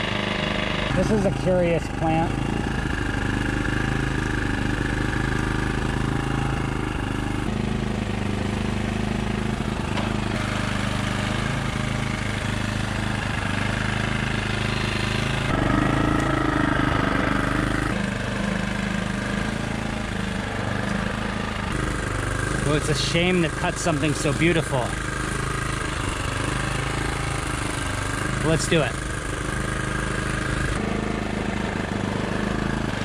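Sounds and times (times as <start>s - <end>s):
generator engine running: 0.0s - 33.0s.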